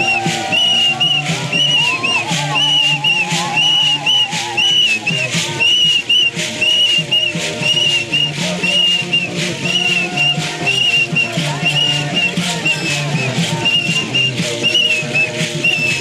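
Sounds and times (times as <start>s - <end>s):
drumming: 0.0s - 16.0s
voices: 0.0s - 16.0s
whistle blasts: 0.0s - 16.0s.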